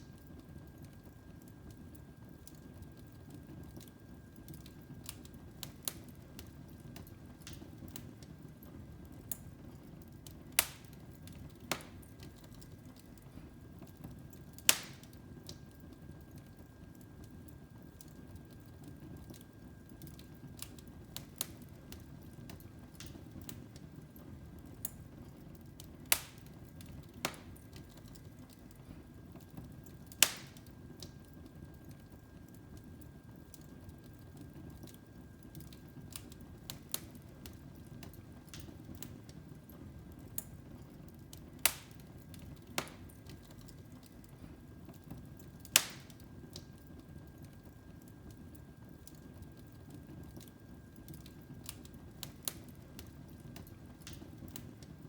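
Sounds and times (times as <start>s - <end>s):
fire crackling and popping: 0.0s - 55.0s
fire low rumble: 0.0s - 55.0s.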